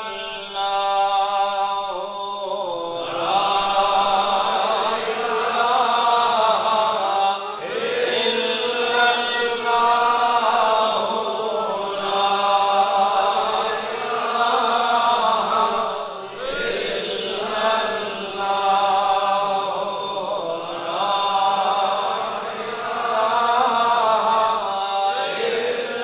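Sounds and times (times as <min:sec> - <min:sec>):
men chanting together: 0:00.0 - 0:26.0.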